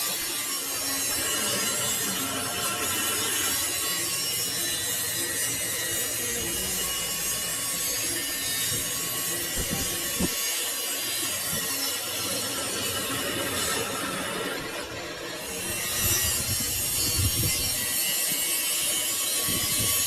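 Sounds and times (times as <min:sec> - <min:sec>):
lathe tool scraping metal: 0:00.0 - 0:20.0.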